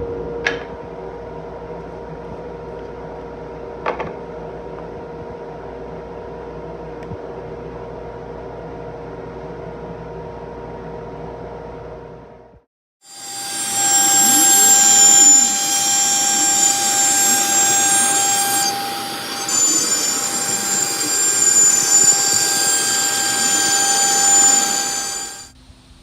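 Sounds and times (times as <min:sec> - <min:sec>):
machine hum with tones: 0:00.0 - 0:25.6.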